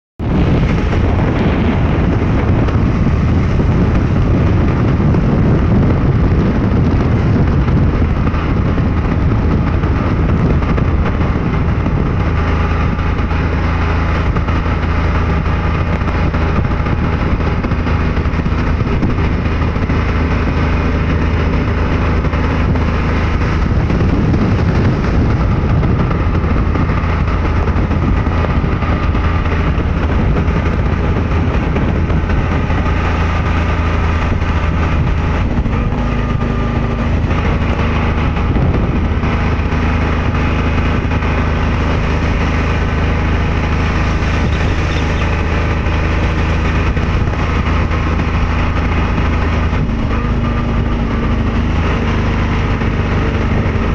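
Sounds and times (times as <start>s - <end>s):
vehicle engine running: 0.0s - 53.9s
wind buffeting microphone: 0.2s - 53.9s.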